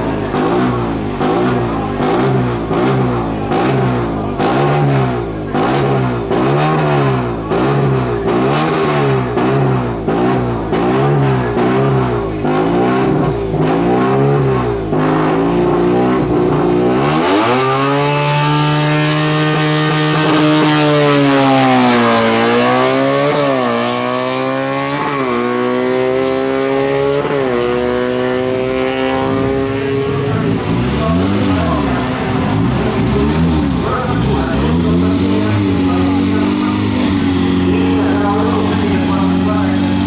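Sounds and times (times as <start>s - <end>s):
racing car engine revving: 0.0s - 40.0s.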